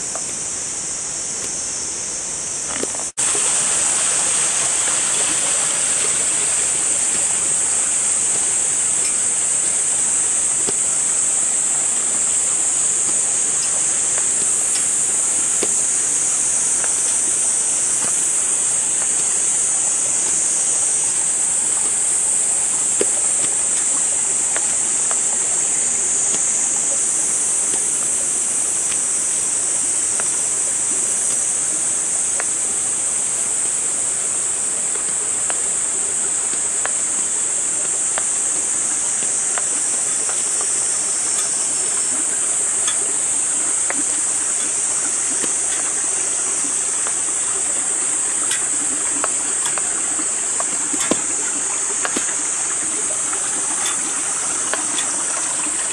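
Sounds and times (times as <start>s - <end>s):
insects droning: 0.0s - 55.9s
water rushing: 0.0s - 55.9s.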